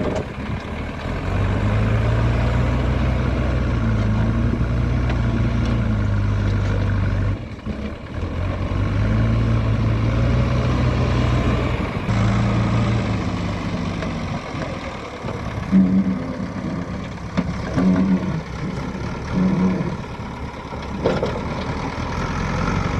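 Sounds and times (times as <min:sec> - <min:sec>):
diesel machinery engines running: 0:00.0 - 0:22.9.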